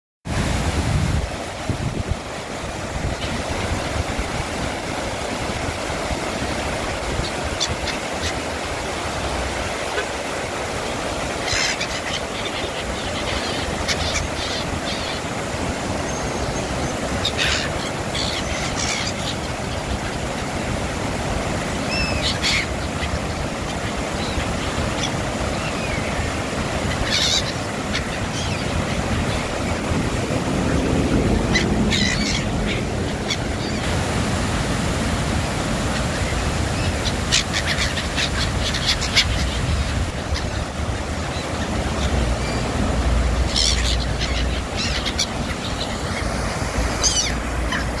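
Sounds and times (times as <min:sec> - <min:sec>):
water rushing over weir: 0:00.3 - 0:48.0
gulls calling: 0:00.5 - 0:48.0.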